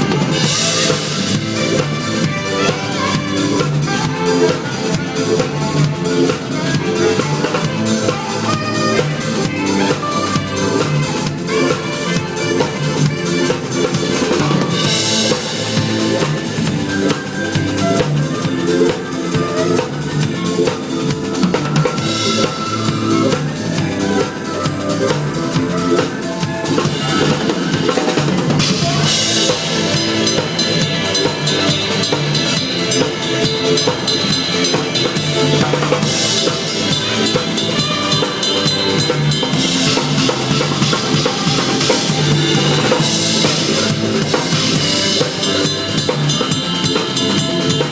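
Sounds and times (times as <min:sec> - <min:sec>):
cymbals ringing: 0:00.0 - 0:47.9
drum kit playing a busy beat: 0:00.0 - 0:47.9
pitched musical backing: 0:00.0 - 0:47.9.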